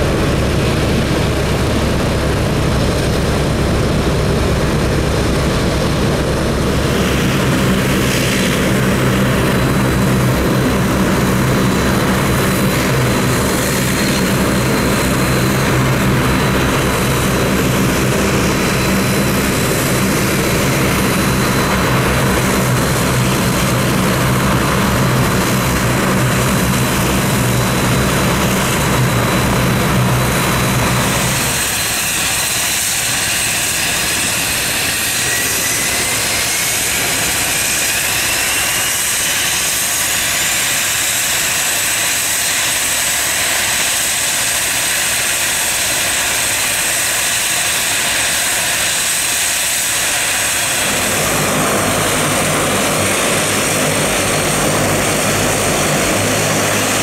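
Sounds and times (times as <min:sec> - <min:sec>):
engine whine: 0:00.0 - 0:57.0
propeller drone: 0:00.0 - 0:57.0.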